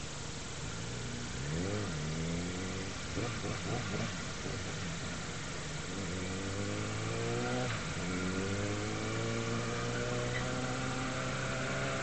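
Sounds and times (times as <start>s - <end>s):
motorcycle engine accelerating: 0.9s - 12.0s.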